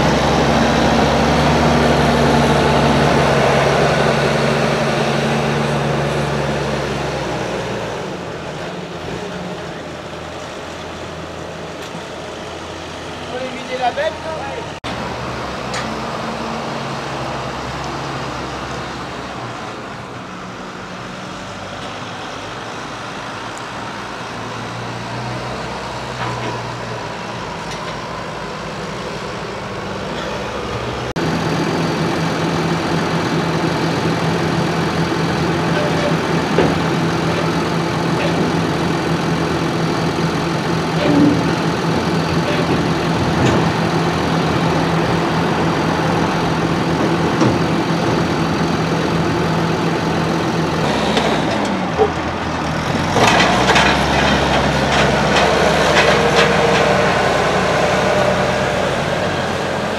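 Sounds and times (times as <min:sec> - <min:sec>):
tractor engine running: 0:00.0 - 0:24.3, 0:25.4 - 0:59.9.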